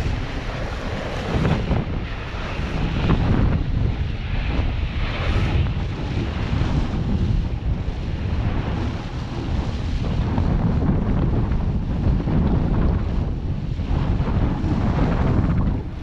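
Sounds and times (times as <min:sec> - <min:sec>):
gusty wind buffeting microphone: 0:00.0 - 0:16.0
water rushing along boat hull: 0:00.0 - 0:16.0.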